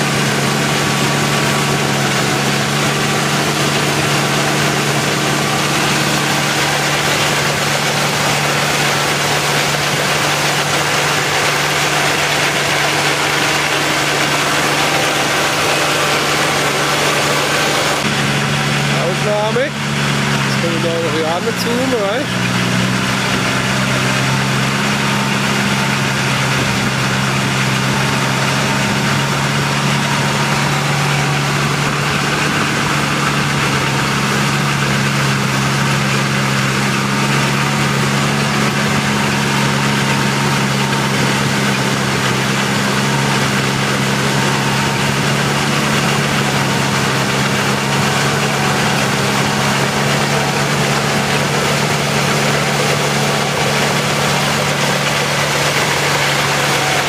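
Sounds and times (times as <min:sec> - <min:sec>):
harvester machine humming: 0:00.0 - 0:57.0.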